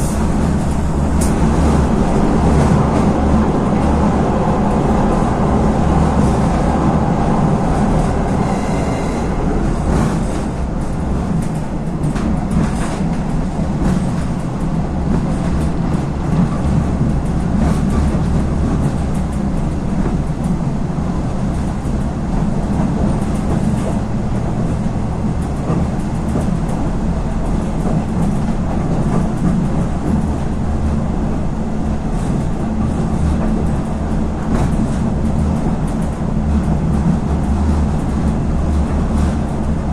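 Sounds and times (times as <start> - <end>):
railcar engine drone: 0.0 - 39.9
train wheels rattling and clicking: 0.0 - 39.9.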